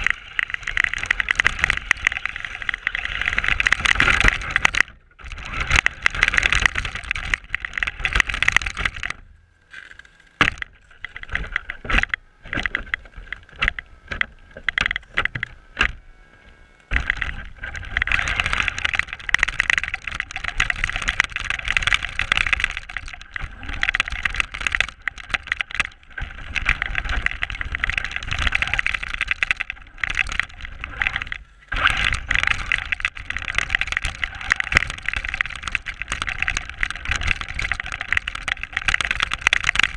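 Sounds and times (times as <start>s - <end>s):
knocks and rattles: 0.0s - 9.2s, 9.8s - 16.0s, 16.9s - 39.9s.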